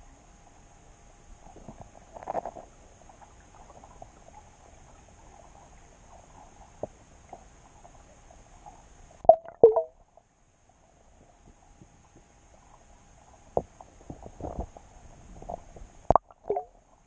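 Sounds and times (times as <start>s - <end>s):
underwater crackling and clicks: 1.4s - 10.3s, 11.2s - 17.0s.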